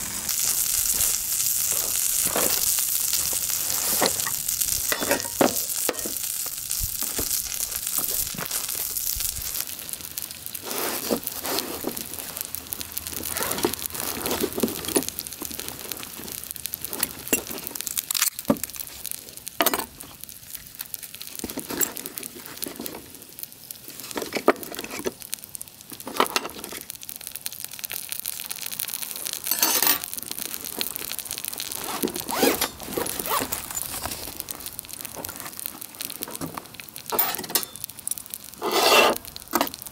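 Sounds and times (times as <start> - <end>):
pan sizzling: 0.0 - 39.9
plastic packaging crinkling and tearing: 0.0 - 39.9.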